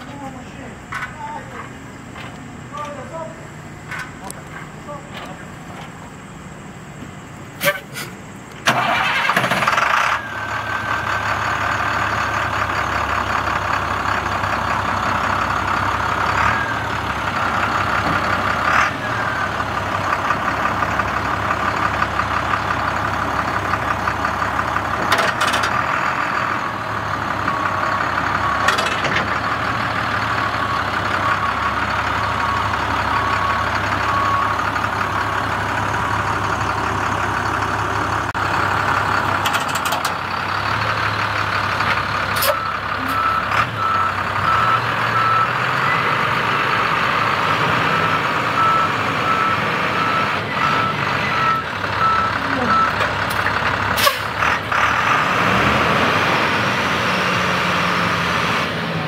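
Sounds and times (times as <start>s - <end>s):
diesel engine cranking: 0.0s - 59.0s
diesel truck engine idling: 0.0s - 59.0s.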